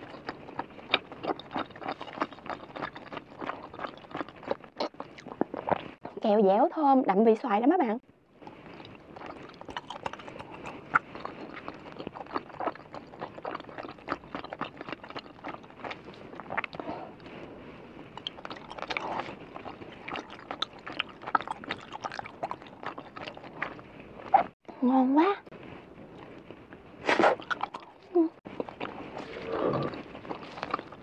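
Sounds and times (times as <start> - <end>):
chewing gummy candy: 0.0 - 6.1, 8.4 - 17.3, 18.1 - 24.6, 27.1 - 31.0.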